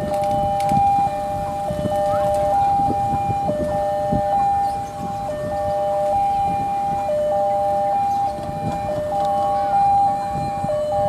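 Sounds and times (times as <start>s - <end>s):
level crossing two-tone alarm: 0.0s - 11.0s
low rumble of traffic: 0.0s - 11.0s.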